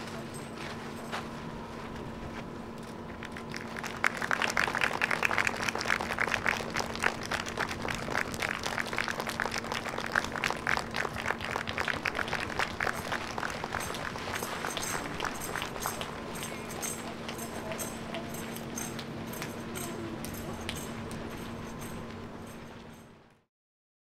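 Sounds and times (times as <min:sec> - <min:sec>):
audience applauding: 0:03.2 - 0:22.4.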